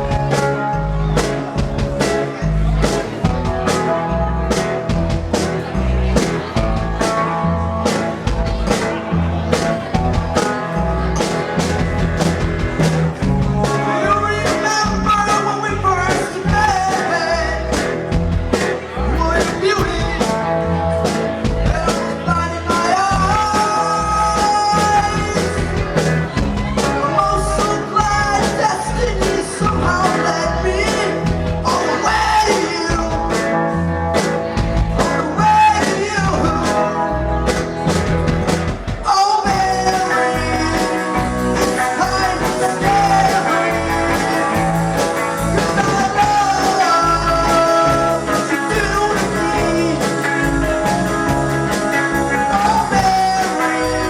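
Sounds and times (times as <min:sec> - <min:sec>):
rock band playing: 0:00.0 - 0:54.0
person singing: 0:08.6 - 0:54.0.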